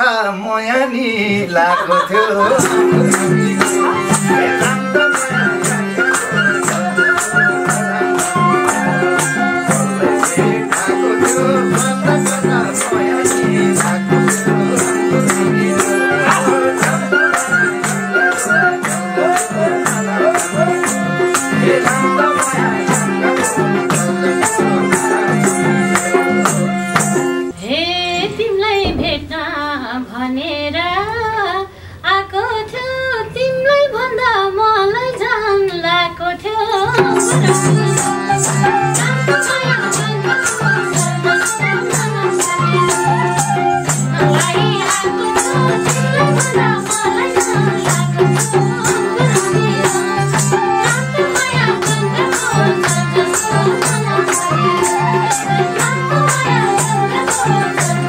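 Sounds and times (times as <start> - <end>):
woman singing: 1.5 - 58.0
harmonium chords: 2.3 - 29.7, 36.9 - 58.0
percussion beat: 2.4 - 27.6, 28.8 - 29.4, 36.8 - 58.0.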